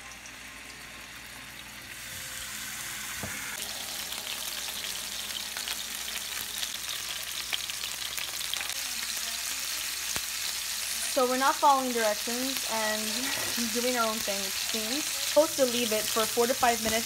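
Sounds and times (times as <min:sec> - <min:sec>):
steak sizzling in a frying pan: 0:00.2 - 0:17.0.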